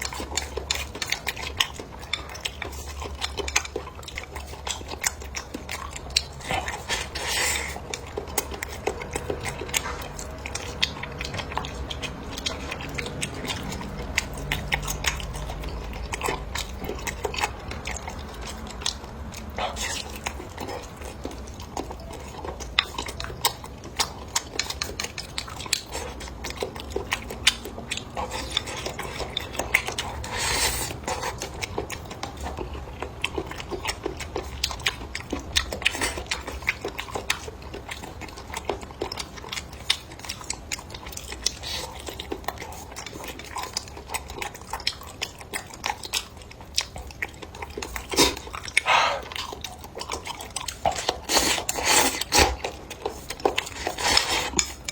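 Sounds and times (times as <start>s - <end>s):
chewing and biting: 0.0s - 54.9s.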